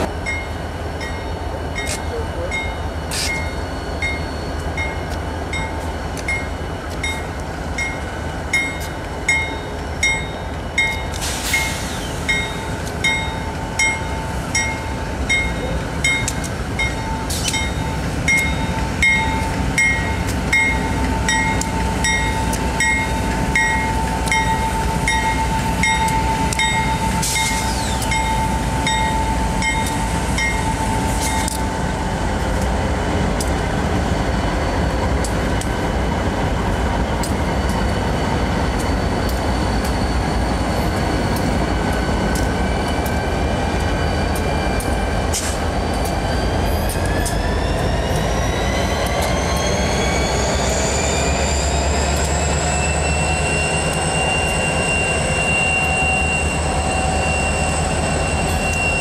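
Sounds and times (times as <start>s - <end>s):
diesel locomotive engines rumbling: 0.0s - 59.0s.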